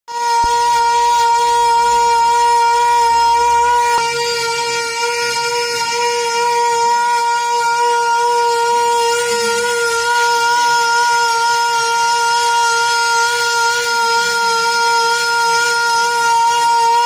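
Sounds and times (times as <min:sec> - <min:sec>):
warning siren steady tone: 0:00.1 - 0:17.0.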